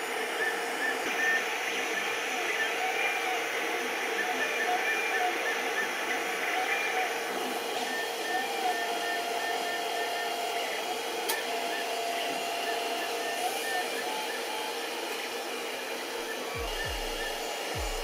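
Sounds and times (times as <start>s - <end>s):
stepper motors whining: 0.0s - 18.0s.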